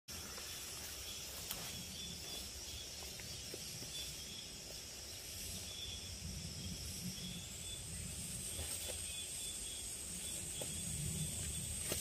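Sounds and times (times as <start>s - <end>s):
higher-pitched insect buzz: 0.1s - 12.0s
insect drone: 0.1s - 12.0s
low wind rumble: 0.1s - 12.0s.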